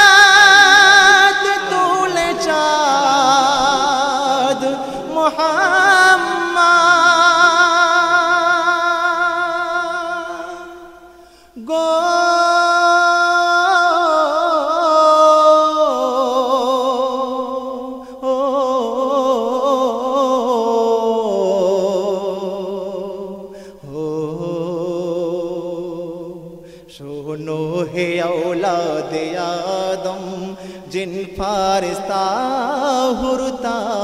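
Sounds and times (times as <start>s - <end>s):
person singing with vibrato: 0.0s - 34.0s.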